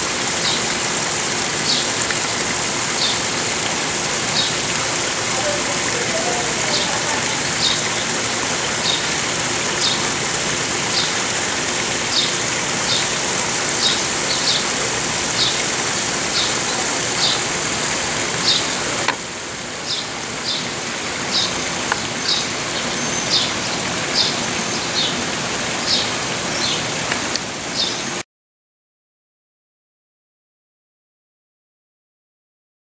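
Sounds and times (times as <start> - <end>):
water rushing over rocks: 0.0 - 28.2.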